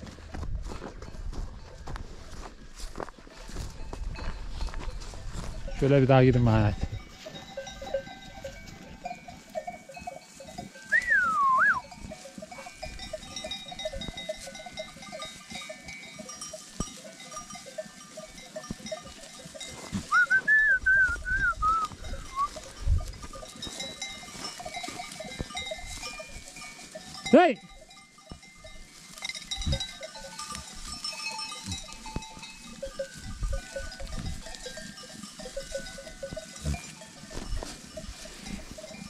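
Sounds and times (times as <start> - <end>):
animal bells clinking: 0.0 - 39.0.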